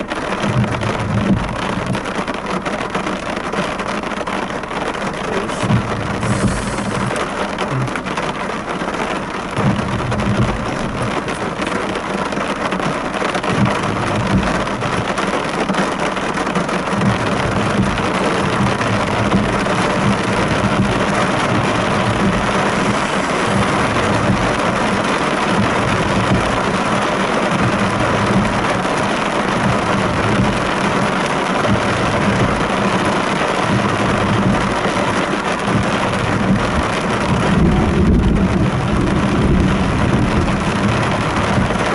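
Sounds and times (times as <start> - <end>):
heavy rain on car roof: 0.0 - 41.9.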